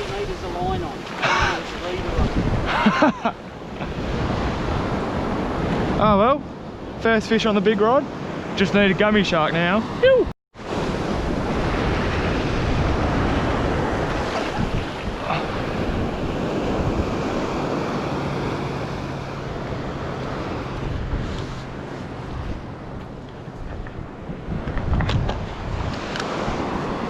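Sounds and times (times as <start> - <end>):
ocean surf washing onto beach: 0.0 - 27.0
wind buffeting microphone: 0.0 - 27.0.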